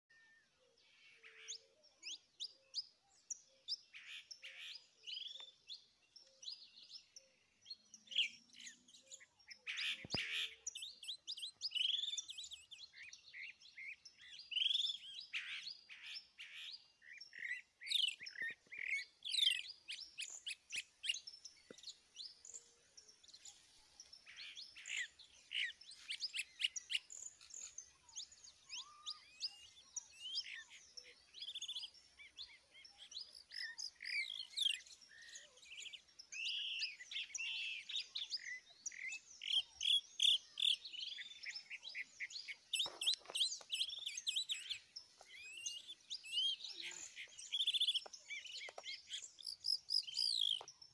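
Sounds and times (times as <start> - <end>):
birds chirping and trilling: 0.1 - 50.9.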